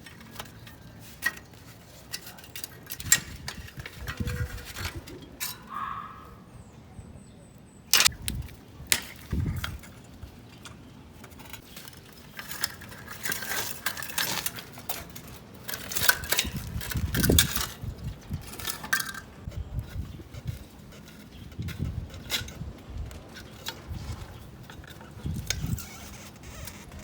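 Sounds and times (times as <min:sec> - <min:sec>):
metal tools clinking: 0:00.0 - 0:06.0, 0:08.9 - 0:27.0.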